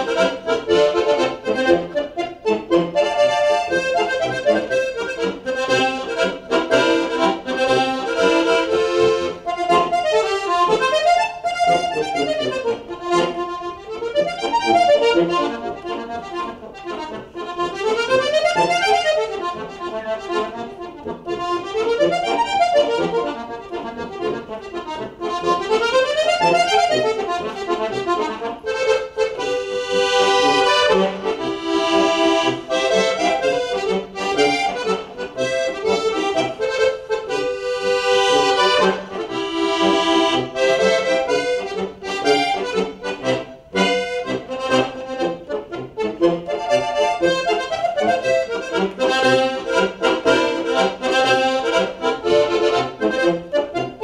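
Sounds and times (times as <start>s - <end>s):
button accordion folk tune: 0.0s - 54.0s.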